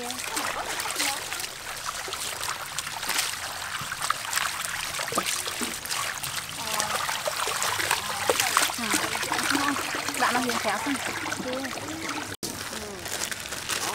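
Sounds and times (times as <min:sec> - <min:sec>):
hose water running into basin: 0:00.0 - 0:12.5
greens splashing in water: 0:00.0 - 0:13.9.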